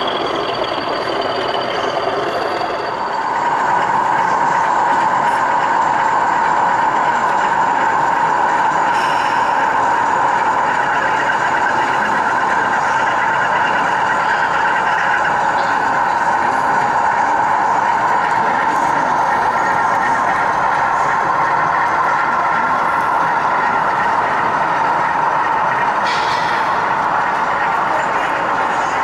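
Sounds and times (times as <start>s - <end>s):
model locomotive engine sound: 0.0s - 29.0s.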